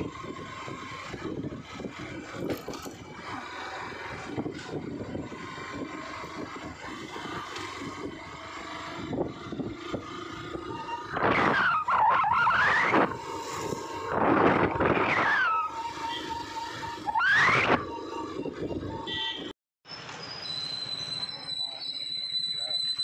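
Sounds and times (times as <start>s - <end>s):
loud gliding squeal: 0.0s - 23.0s
vehicle riding along road: 0.0s - 23.0s.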